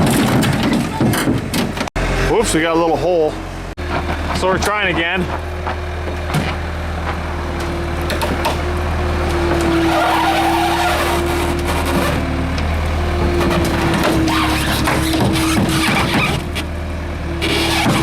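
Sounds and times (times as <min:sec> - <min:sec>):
loader engine running with whine: 0:00.0 - 0:18.0.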